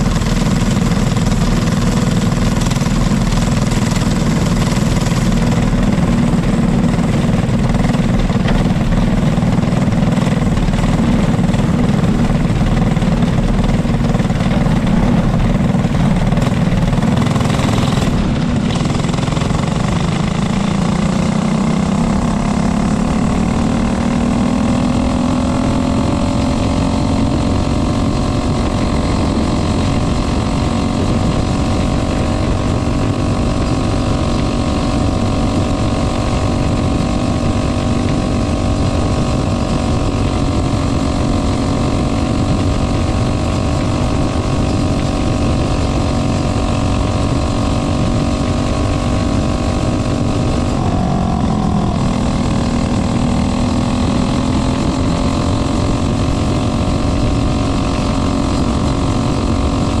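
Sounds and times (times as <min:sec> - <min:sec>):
constant rushing noise: 0:00.0 - 1:00.0
kart engine at high revs: 0:00.0 - 1:00.0.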